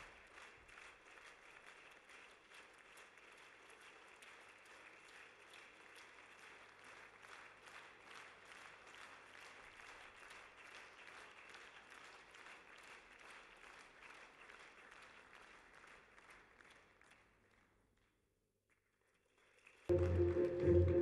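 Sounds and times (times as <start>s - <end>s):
crowd applause: 0.0s - 16.8s, 19.4s - 21.0s.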